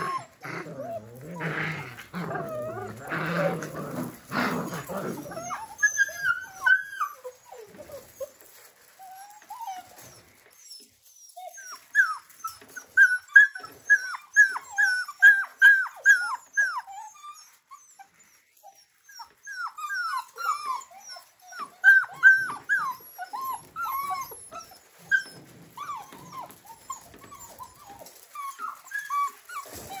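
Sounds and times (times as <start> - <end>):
puppies whimpering and yipping: 0.0 - 30.0.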